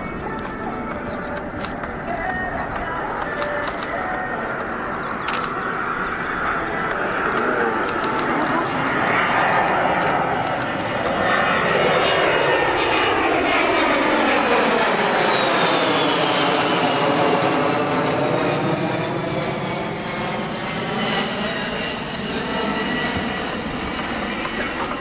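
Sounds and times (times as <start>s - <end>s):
turboprop aircraft flying past: 0.0s - 25.0s.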